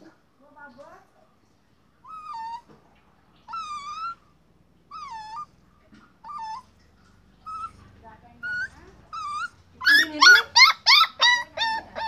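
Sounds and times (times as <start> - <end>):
puppy whining: 2.0 - 12.0.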